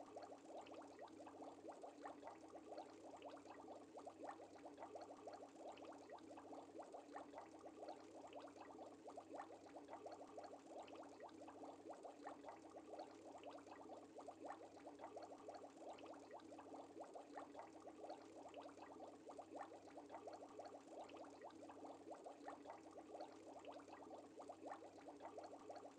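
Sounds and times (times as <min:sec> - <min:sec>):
water bubbling: 0:00.1 - 0:25.9.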